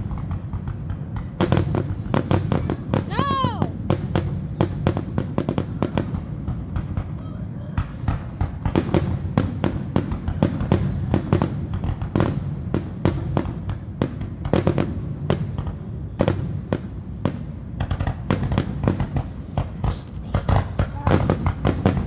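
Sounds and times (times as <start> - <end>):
continuous low rumble: 0.0 - 22.0
fireworks bangs and crackles: 0.0 - 22.0.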